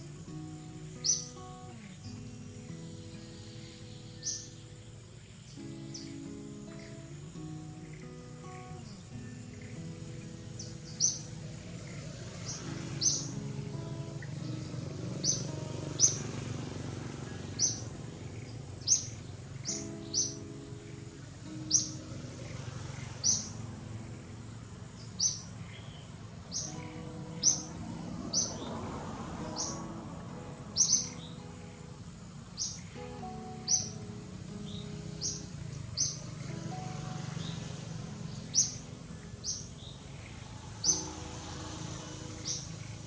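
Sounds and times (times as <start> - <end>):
bird chirping: 0.0 - 43.0
soft background music: 0.0 - 43.0.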